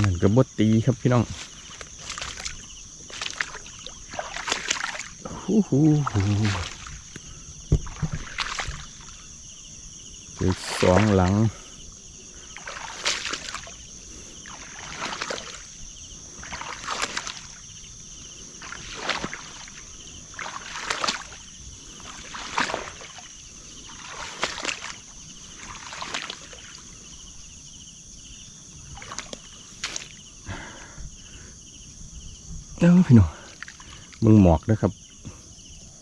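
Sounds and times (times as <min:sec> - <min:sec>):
water sloshing and splashing: 0:00.0 - 0:27.8, 0:28.5 - 0:30.8, 0:32.8 - 0:34.4.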